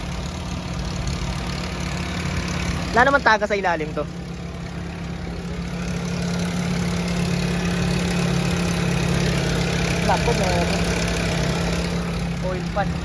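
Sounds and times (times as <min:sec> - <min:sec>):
car engine idling with rattle: 0:00.0 - 0:13.0.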